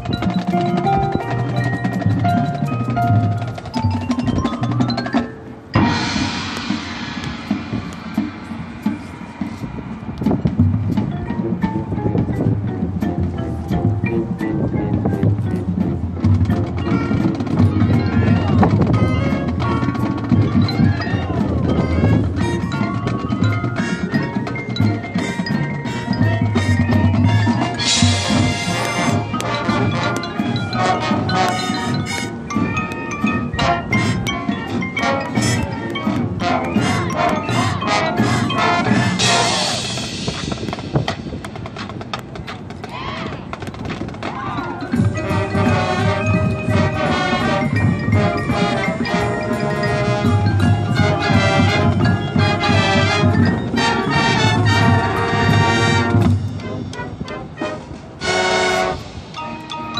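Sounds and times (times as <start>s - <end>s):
bells and marimba notes: 0.0s - 42.0s, 44.2s - 57.6s, 58.2s - 59.9s
band playing: 0.0s - 59.9s
drums: 0.0s - 59.9s.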